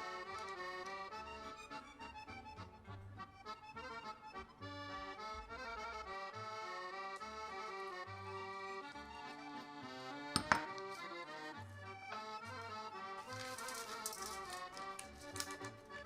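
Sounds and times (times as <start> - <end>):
accordion tune: 0.0 - 16.0.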